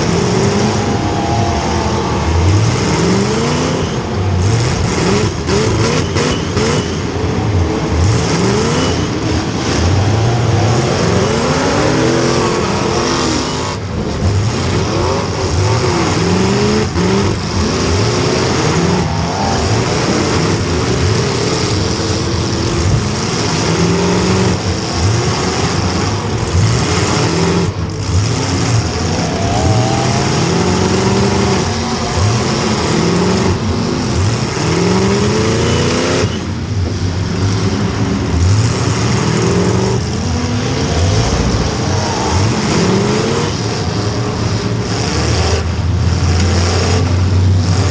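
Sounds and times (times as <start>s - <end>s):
car engine revving hard: 0.0s - 47.9s.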